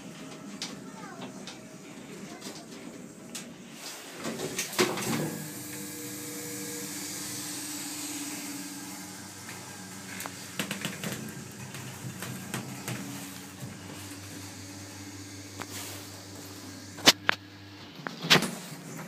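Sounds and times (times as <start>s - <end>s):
hydraulic pump motor humming: 0.0s - 19.0s.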